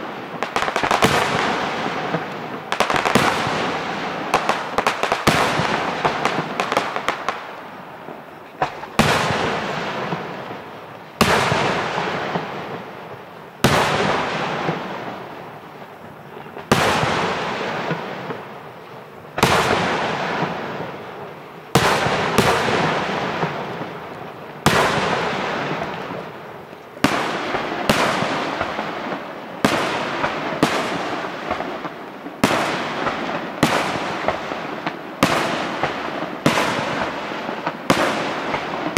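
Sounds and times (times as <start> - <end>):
crackling firework pops: 0.0 - 38.9
firework shells bursting with bangs: 0.0 - 38.9.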